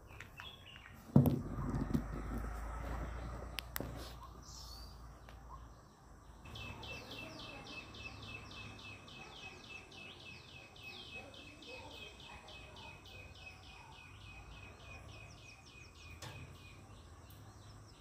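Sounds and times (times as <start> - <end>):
outdoor ambience: 0.0 - 18.0.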